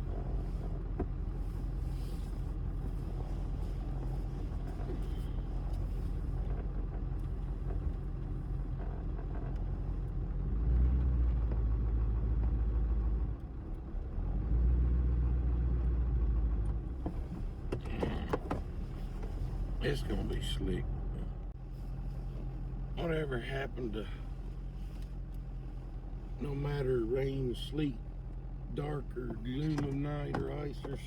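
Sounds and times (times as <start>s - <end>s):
vehicle engine and road rumble: 0.0s - 31.0s.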